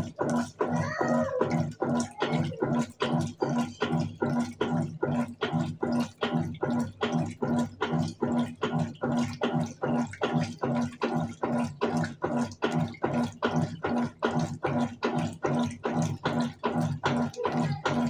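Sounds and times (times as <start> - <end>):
washing machine motor humming: 0.0 - 18.0
water sloshing in tub: 0.0 - 18.0.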